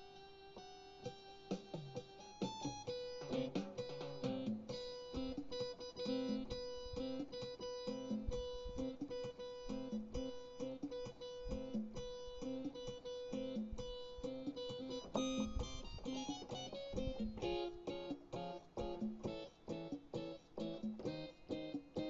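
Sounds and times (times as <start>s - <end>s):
plucked guitar-like figure: 0.0s - 22.0s.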